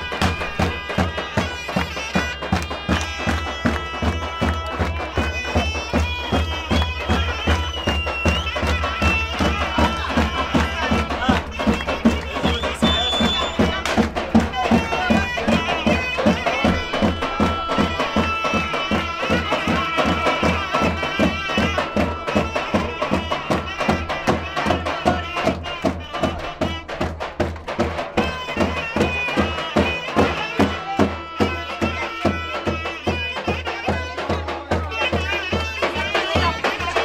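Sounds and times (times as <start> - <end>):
fast drum beat: 0.0 - 37.0
wind instrument melody: 0.0 - 37.0.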